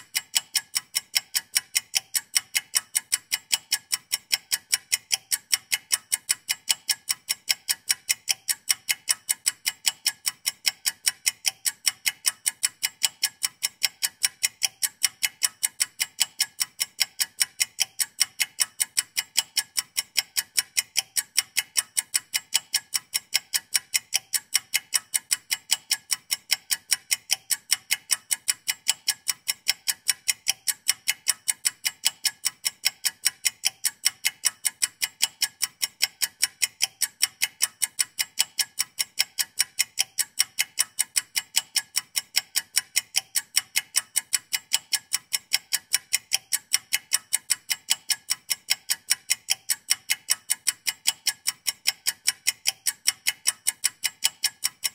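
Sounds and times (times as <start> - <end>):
clock ticking: 0.0 - 54.9.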